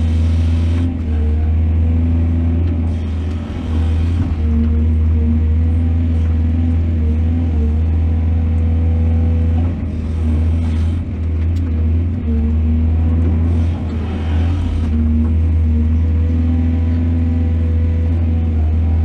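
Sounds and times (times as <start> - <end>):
diesel engine low drone: 0.0 - 19.0.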